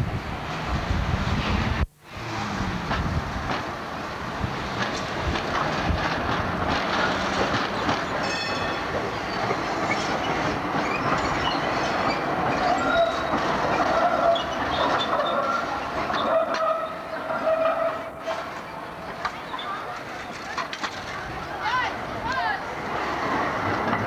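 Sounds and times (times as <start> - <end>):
tram wheels clacking over rail joints: 0.3 - 24.0
tram wheels squealing: 3.6 - 24.0.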